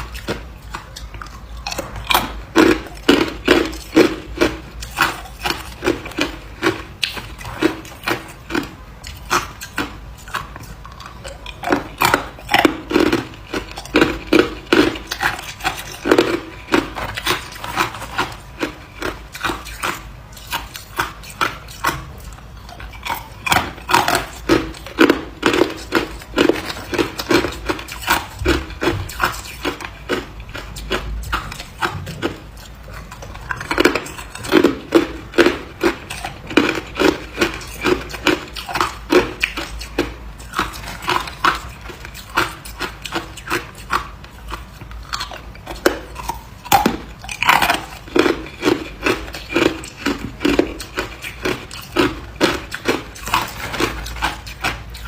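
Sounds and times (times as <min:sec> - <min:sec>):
ice being chewed crunching: 0:00.0 - 0:55.0.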